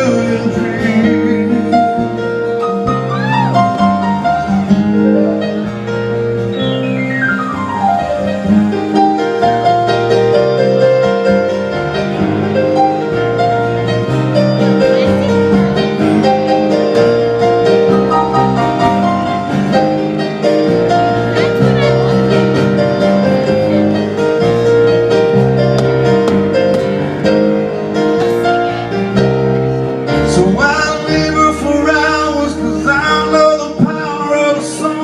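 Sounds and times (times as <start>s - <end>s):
country band playing: 0.0s - 35.0s
piano melody and chords: 0.0s - 35.0s.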